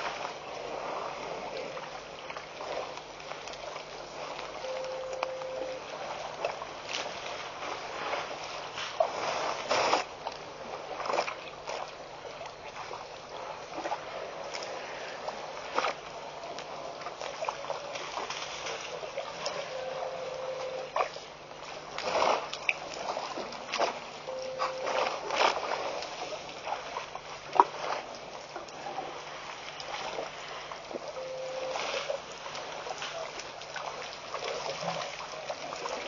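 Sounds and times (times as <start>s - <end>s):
water splashing and sloshing: 0.0s - 36.0s.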